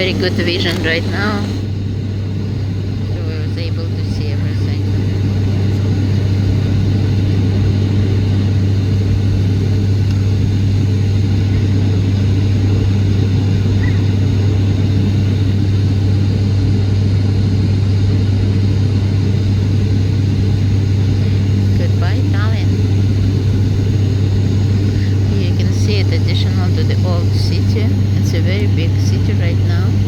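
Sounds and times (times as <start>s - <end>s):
airliner cabin hum: 0.0s - 30.0s.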